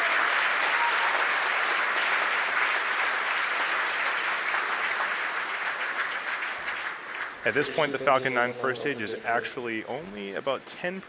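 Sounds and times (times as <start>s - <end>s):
crowd applauding: 0.0s - 9.8s.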